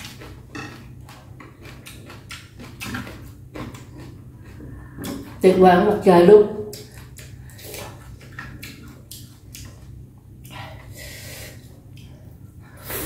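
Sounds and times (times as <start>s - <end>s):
person chewing noodles: 0.0s - 5.0s, 6.7s - 13.0s.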